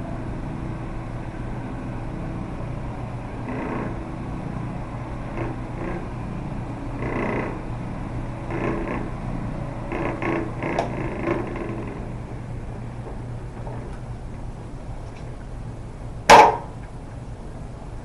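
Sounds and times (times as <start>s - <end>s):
rug finisher humming: 0.0s - 15.2s.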